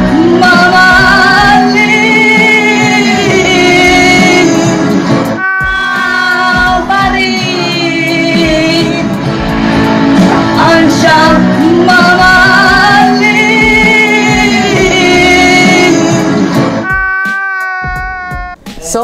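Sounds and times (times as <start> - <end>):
steady musical accompaniment: 0.0 - 17.4.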